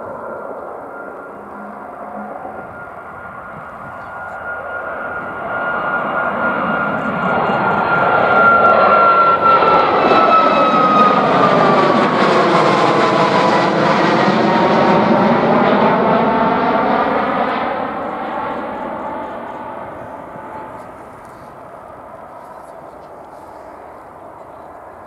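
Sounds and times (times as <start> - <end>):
jet engines at takeoff thrust: 0.0 - 25.0.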